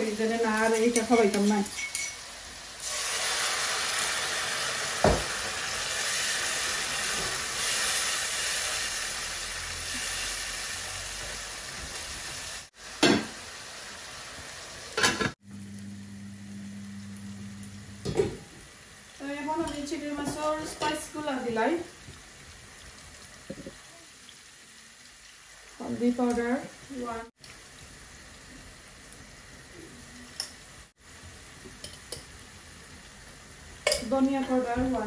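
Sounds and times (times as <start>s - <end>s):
curry simmering with hiss: 0.0s - 35.0s.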